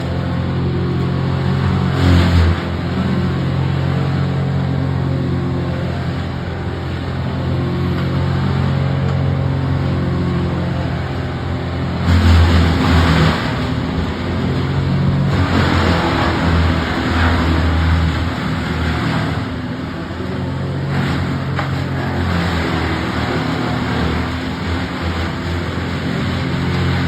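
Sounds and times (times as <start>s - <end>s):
large machine engine running: 0.0s - 27.0s
rough engine surges: 0.0s - 27.0s.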